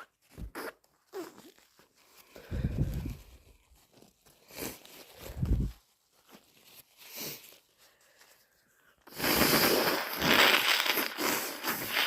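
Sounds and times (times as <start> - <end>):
person blowing nose into tissue: 0.0 - 3.7, 4.4 - 5.8, 6.8 - 12.0.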